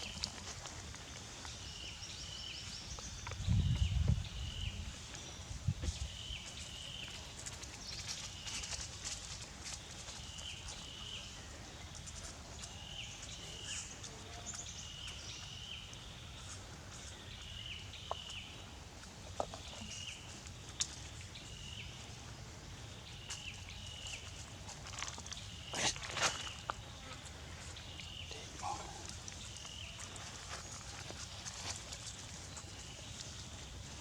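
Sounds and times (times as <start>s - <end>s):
outdoor background noise: 0.0s - 34.0s
rustle: 0.0s - 34.0s.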